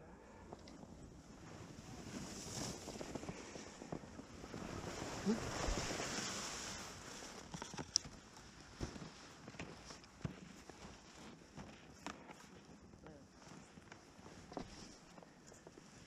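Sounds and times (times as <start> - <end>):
skis sliding over snow: 1.2 - 16.0.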